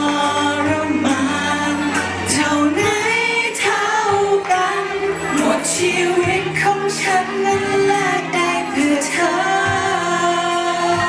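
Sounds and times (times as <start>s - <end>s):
backing music: 0.0s - 11.0s
person singing through microphone: 0.0s - 11.0s.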